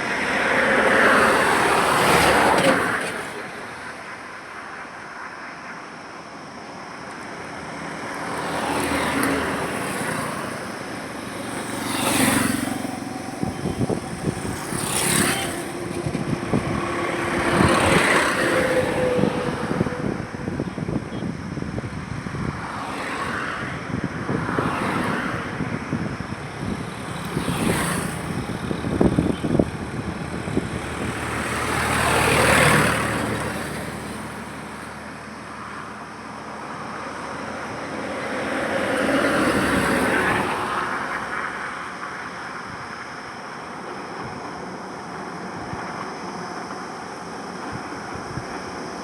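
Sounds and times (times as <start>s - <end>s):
steady road hum: 0.0s - 49.0s
vehicles passing: 0.0s - 49.0s.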